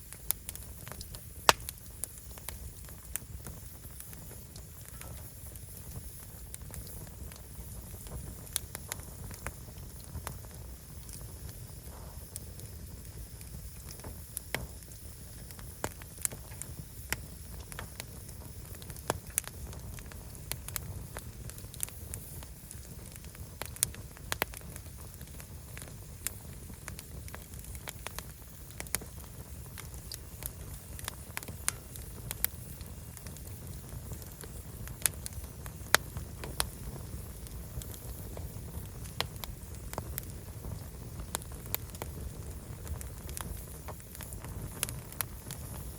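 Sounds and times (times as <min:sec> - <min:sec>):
firewood crackling and popping: 0:00.0 - 0:45.9.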